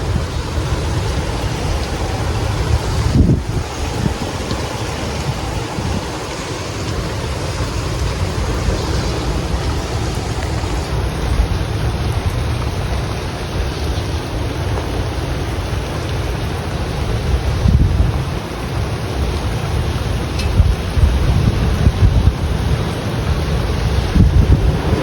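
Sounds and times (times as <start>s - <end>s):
heavy rain: 0.0s - 25.0s
storm wind: 0.0s - 25.0s
wind buffeting microphone: 0.0s - 25.0s.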